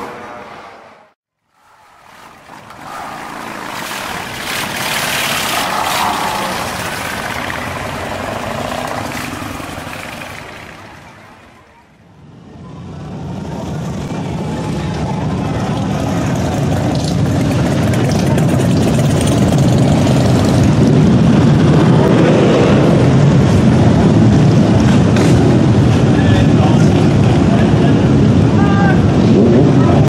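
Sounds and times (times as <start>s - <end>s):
motorcycle engines passing slowly: 1.6s - 28.5s.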